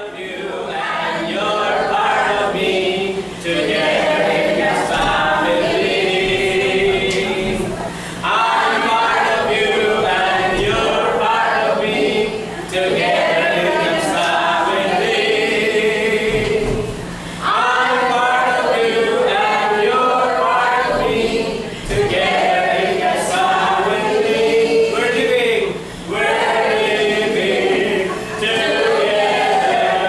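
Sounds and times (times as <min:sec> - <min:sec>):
group singing unaccompanied: 0:00.0 - 0:30.0.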